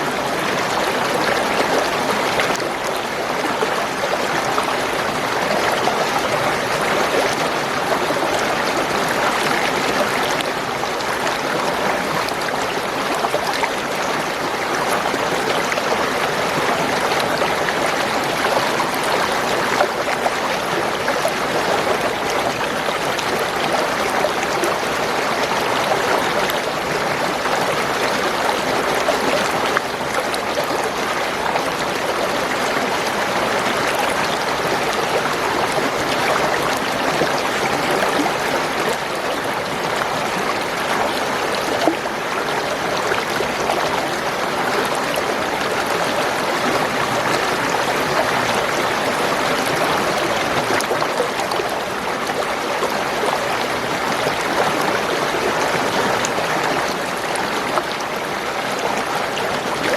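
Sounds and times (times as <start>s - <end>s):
spring water flowing and gurgling: 0.0s - 59.9s.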